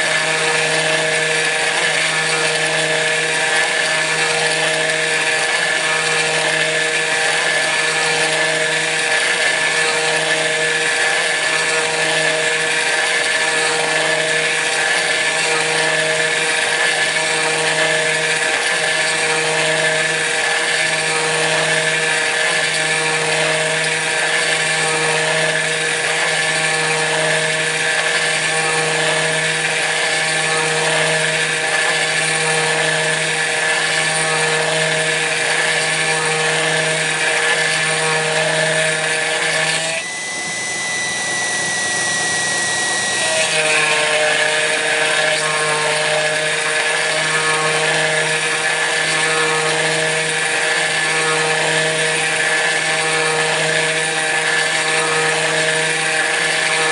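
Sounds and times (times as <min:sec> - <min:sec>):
harsh metal cutting noise: 0:00.0 - 0:56.9
router spindle whine: 0:00.0 - 0:56.9.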